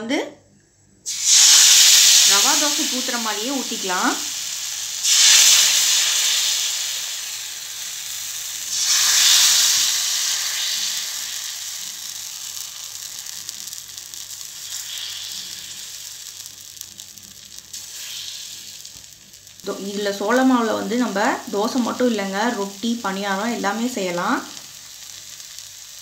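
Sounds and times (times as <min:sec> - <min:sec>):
batter sizzling on hot griddle: 0:01.0 - 0:26.0.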